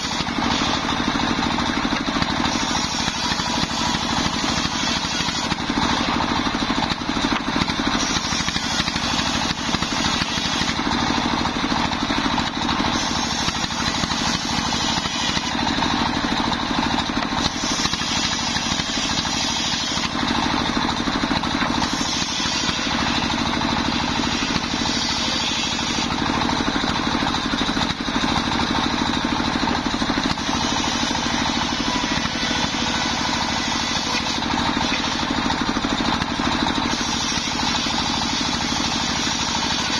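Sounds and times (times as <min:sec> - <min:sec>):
circular saw blade cutting wood: 0:00.0 - 0:39.9
diesel engine running: 0:00.0 - 0:39.9.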